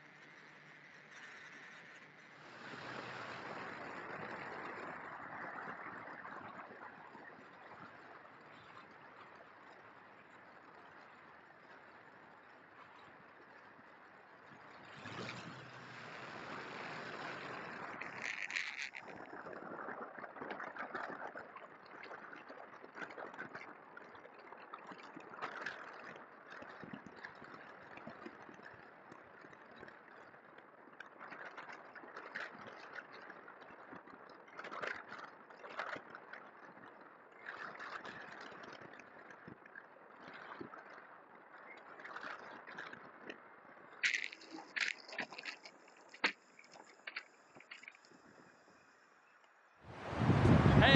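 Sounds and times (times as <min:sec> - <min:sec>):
wind noise on model airplane: 0:00.0 - 0:48.9, 0:49.8 - 0:50.9.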